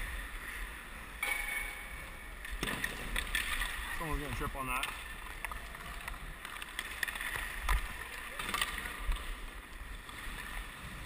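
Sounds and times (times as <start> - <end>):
skates scraping on ice: 2.0 - 11.0.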